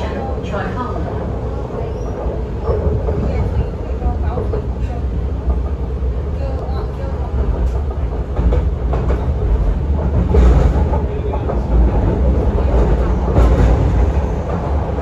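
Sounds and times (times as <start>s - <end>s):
rail clacks: 0.0s - 15.0s
train wheels rumbling on rails: 0.0s - 15.0s.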